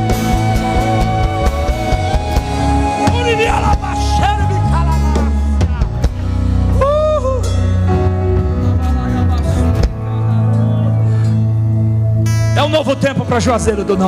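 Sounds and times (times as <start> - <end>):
church band playing: 0.0 - 14.0
drum kit: 0.0 - 14.0
guitar: 0.0 - 14.0.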